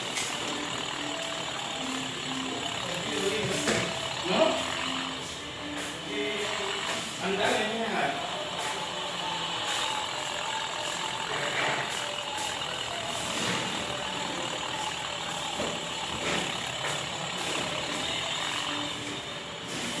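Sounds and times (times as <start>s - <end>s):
mini tractor with tiller running: 0.0s - 20.0s.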